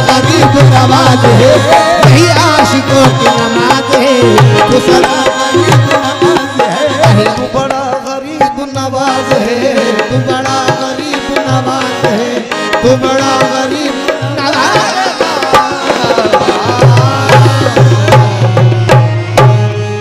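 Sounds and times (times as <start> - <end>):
harmonium chords: 0.0 - 20.0
tabla beating fast rhythm: 0.0 - 20.0.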